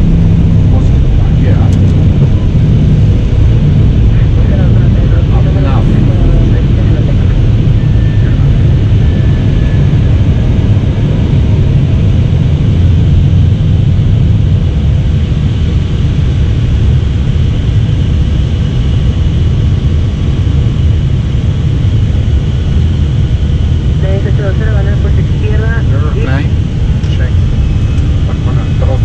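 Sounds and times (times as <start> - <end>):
aircraft engines rumbling: 0.0 - 29.0.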